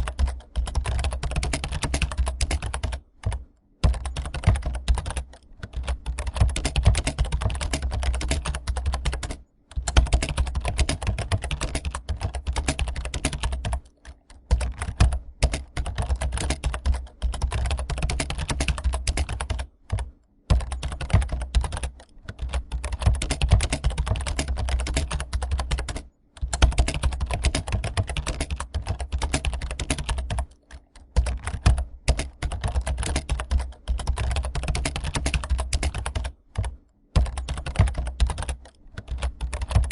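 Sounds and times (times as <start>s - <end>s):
rapid keyboard typing: 0.0s - 39.9s.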